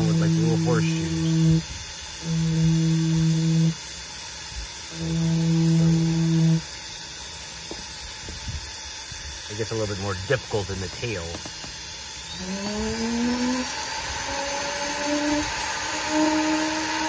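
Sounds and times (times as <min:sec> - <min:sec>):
rotary carving tool humming: 0:00.0 - 0:17.0.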